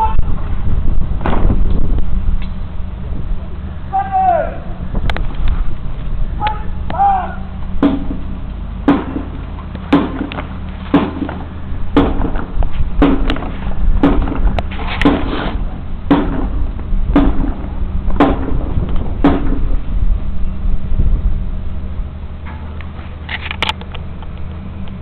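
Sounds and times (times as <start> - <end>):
low rumble: 0.0 - 25.0
marching drum strokes: 1.2 - 23.2.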